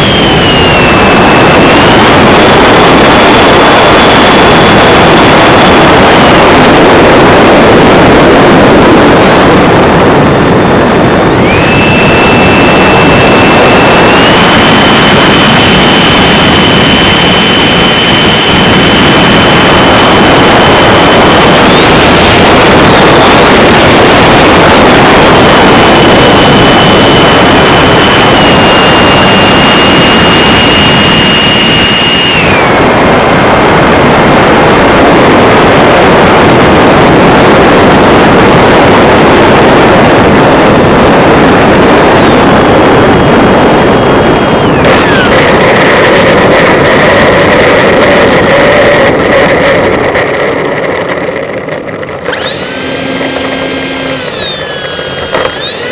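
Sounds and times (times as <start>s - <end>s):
electric ducted fan whining: 0.0s - 55.9s.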